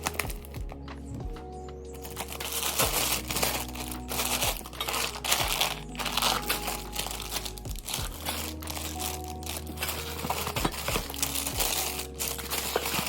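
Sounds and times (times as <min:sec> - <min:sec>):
plastic wrap crinkling: 0:00.0 - 0:00.9, 0:01.9 - 0:13.0.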